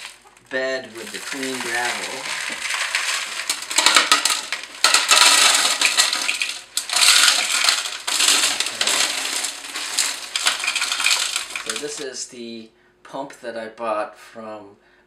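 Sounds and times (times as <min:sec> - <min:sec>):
gravel pouring into plastic: 0:00.0 - 0:12.1.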